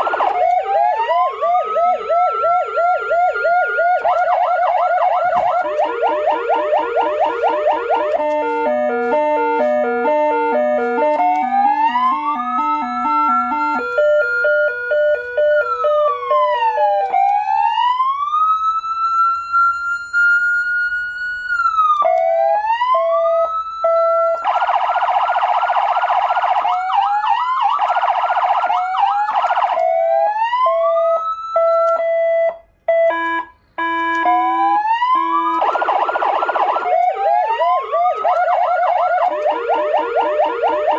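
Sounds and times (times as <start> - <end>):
electronic siren cycling tones: 0.0 - 40.9.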